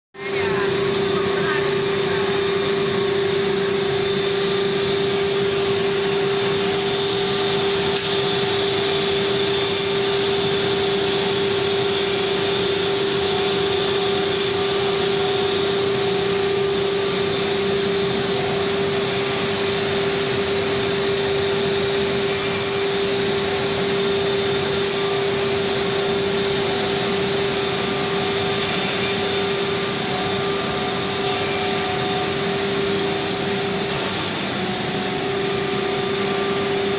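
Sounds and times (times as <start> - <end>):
router rushing noise: 0.2 - 36.9
router whining tone: 0.2 - 36.9.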